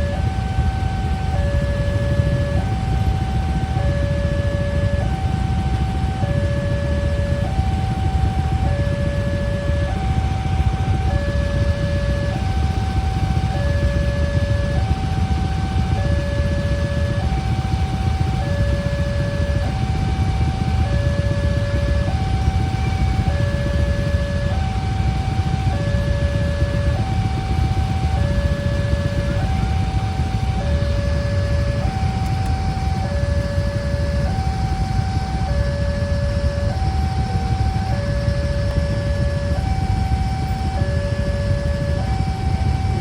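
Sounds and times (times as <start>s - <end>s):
two-tone crossing alarm: 0.0s - 43.0s.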